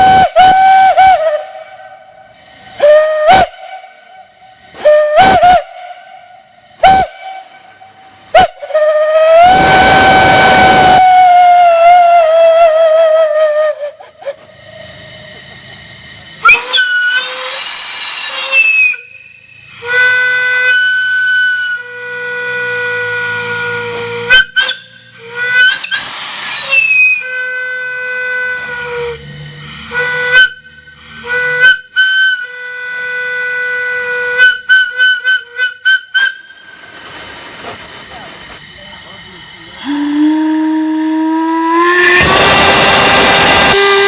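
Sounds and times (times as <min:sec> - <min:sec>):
hiss of escaping steam: 0:00.0 - 0:11.7, 0:13.2 - 0:44.0
large whistle blasts: 0:00.0 - 0:15.1, 0:16.3 - 0:37.0, 0:38.7 - 0:44.0.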